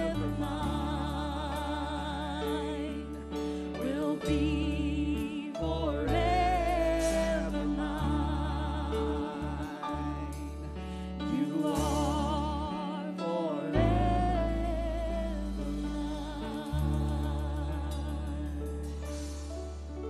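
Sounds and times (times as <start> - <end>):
singers with vibrato: 0.0 - 19.5
deep sustained bass: 0.0 - 20.0
piano: 0.0 - 20.0.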